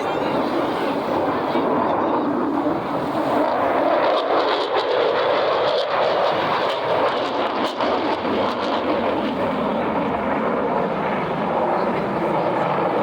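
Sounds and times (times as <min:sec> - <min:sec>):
loud jet aircraft noise: 0:00.0 - 0:13.0.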